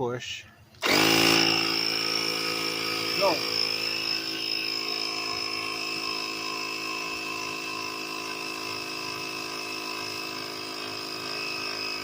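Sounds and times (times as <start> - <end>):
electric air compressor droning: 0.8 - 12.0.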